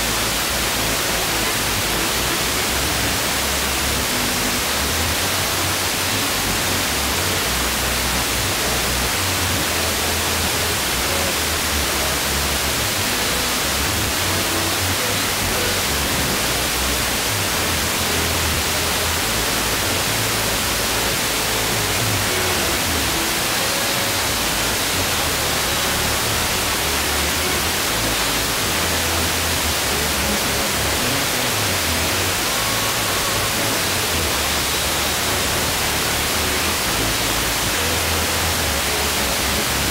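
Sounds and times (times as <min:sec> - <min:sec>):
faint music on radio: 0:00.0 - 0:39.9
radio static hiss: 0:00.0 - 0:39.9.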